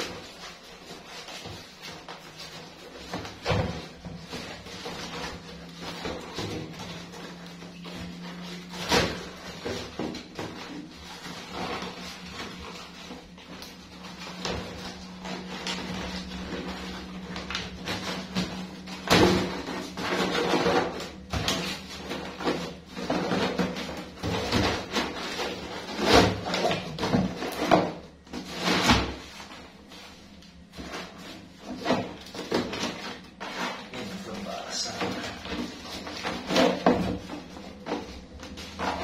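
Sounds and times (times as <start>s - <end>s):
cardboard rustling and crinkling: 0.0s - 39.0s
steady low hum: 0.0s - 39.0s.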